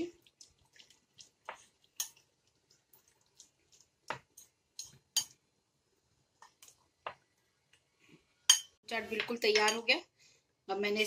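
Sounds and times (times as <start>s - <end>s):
food mixing wet squelches: 0.0s - 10.7s.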